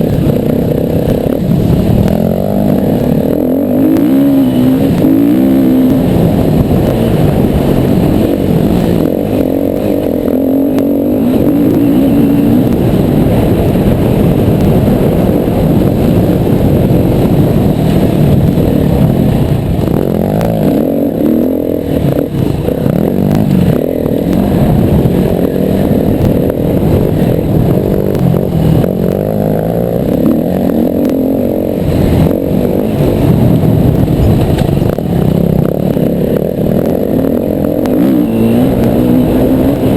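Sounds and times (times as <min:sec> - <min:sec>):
clatter over rough ground: 0:00.0 - 0:39.9
motorcycle engine revving: 0:00.0 - 0:39.9.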